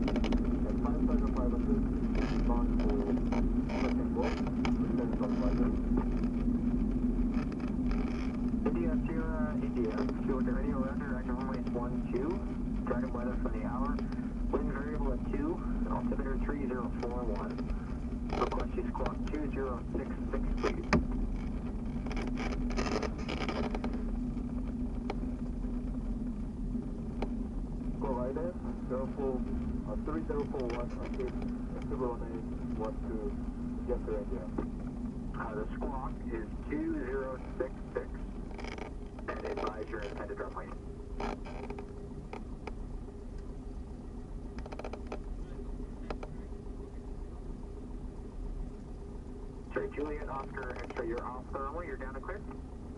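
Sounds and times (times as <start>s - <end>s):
aircraft engine drone: 0.0s - 52.9s.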